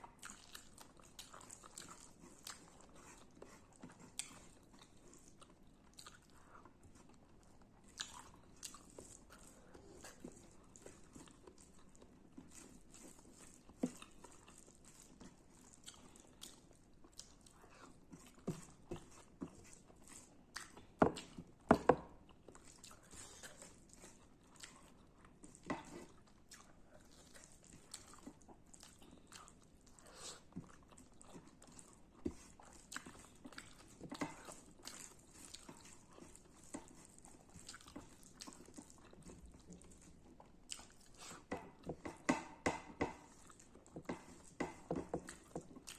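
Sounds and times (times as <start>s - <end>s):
crunching and chewing food: 0.0s - 45.9s.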